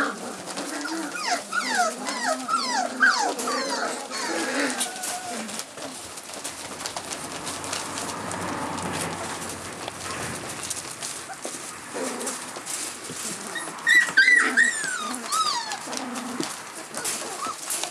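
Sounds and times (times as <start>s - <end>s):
puppies yipping and whining: 0.0s - 8.1s, 8.9s - 17.9s
paws scrambling on floor pads: 0.0s - 17.9s.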